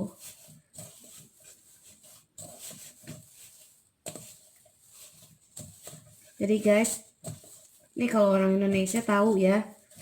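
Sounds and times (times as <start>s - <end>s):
dough squishing: 0.0s - 10.0s.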